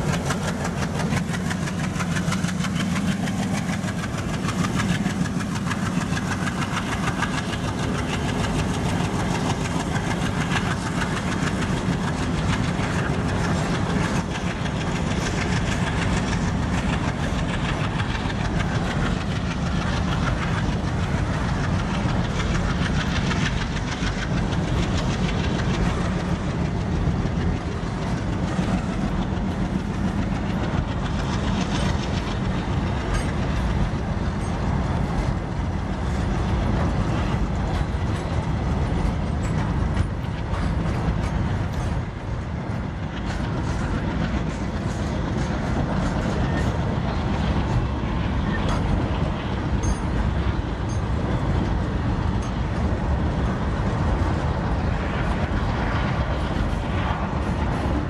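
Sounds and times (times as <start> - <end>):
diesel locomotive engines running: 0.0 - 58.0
wheels clattering over rail joints: 0.0 - 58.0.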